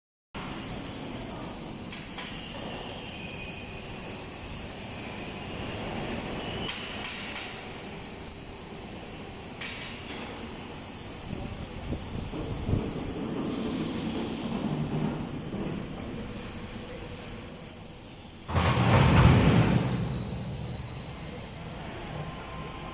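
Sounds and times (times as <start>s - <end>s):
laser welding machine hissing: 0.4s - 22.9s.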